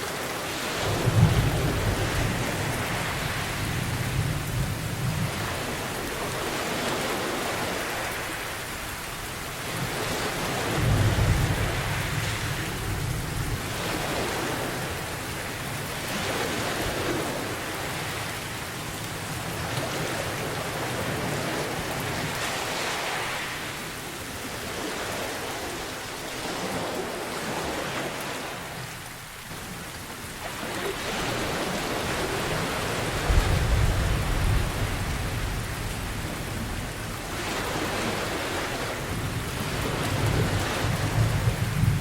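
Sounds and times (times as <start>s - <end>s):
heavy rain: 0.0s - 42.0s
ocean waves washing in: 0.0s - 42.0s.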